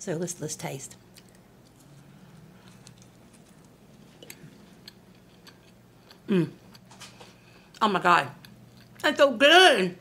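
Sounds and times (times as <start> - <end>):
faint chewing of cookie: 0.9 - 9.1.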